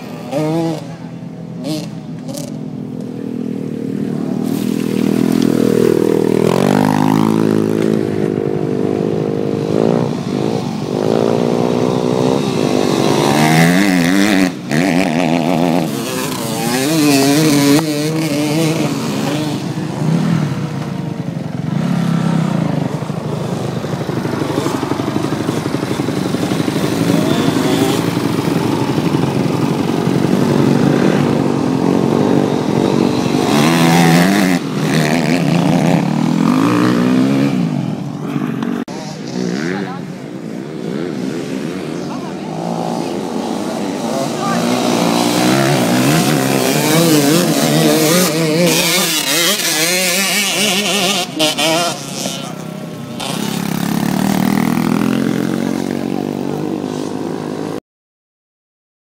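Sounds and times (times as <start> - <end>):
motorcycle engine revving: 0.0 - 57.8.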